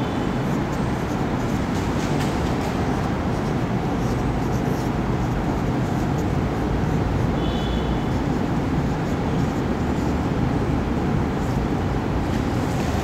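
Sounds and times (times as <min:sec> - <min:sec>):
low background rumble and hiss: 0:00.0 - 0:13.0
marker writing on whiteboard: 0:00.0 - 0:13.0.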